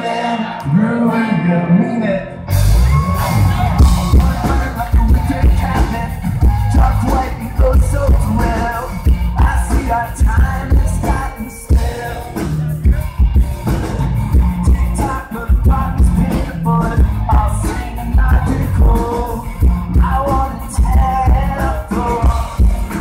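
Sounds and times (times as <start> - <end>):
bass guitar: 0.0 - 23.0
electric guitar: 0.0 - 23.0
drum kit: 2.5 - 23.0.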